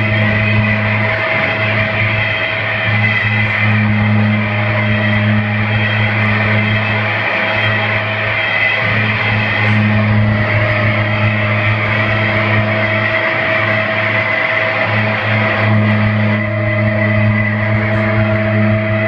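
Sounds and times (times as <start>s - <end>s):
distorted harsh noise music: 0.0s - 19.0s
steady low drone: 0.0s - 19.0s.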